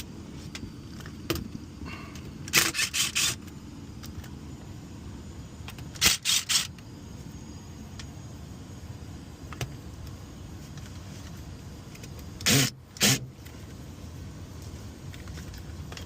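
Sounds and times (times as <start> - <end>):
hvac system humming: 0.0 - 16.0.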